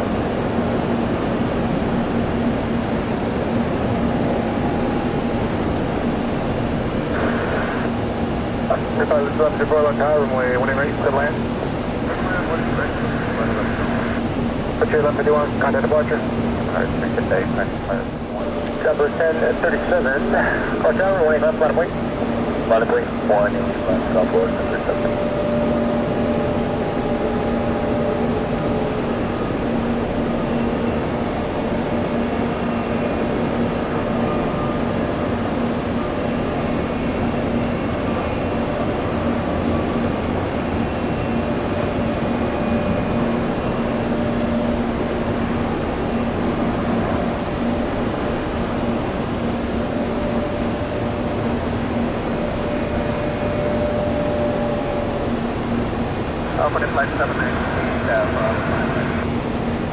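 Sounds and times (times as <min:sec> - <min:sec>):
steady machine drone: 0:00.0 - 0:59.9.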